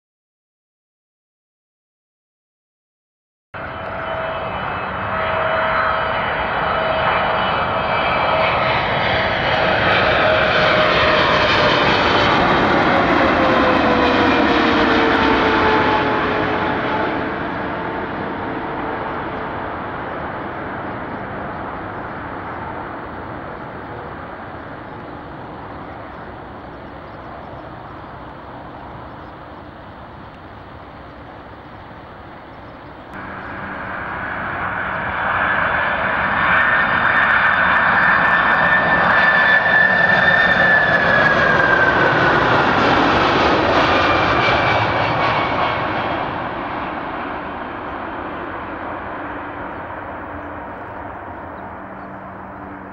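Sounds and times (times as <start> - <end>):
high jet engine whine: 3.6 - 52.9
jet airliner flying low past: 3.6 - 52.9.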